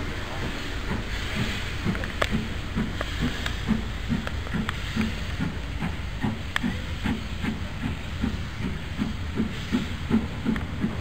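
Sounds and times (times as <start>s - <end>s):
train coaches rolling on rails: 0.0s - 11.0s.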